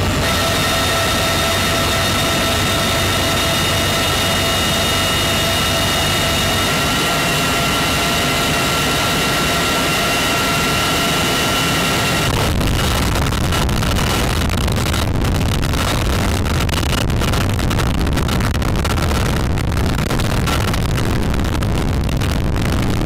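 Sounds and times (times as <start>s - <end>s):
helicopter engine rumble: 0.0s - 23.0s
high engine whine: 0.0s - 23.0s.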